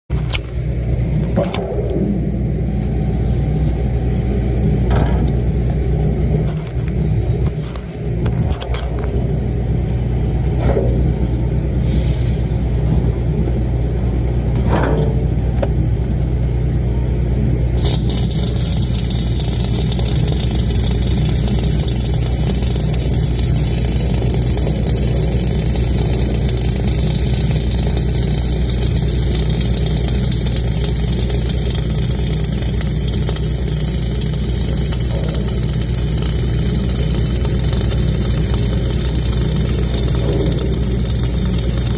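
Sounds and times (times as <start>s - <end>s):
engine running steadily: 0.1s - 41.9s.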